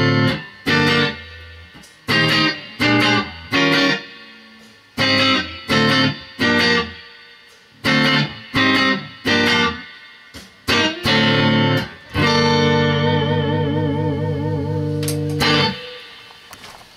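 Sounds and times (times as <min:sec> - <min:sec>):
electric guitar chord stabs: 0:00.0 - 0:16.7.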